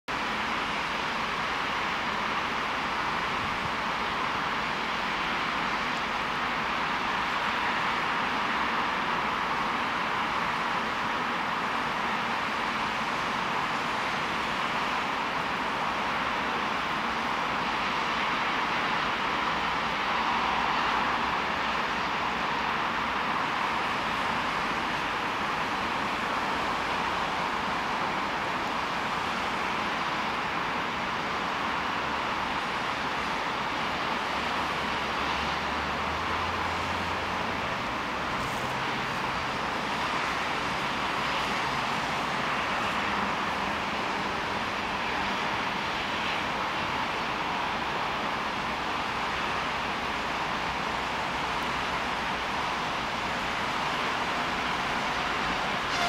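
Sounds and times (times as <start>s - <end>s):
diesel engine drone: 0.1s - 56.0s
freight train rushing rumble: 1.3s - 56.0s.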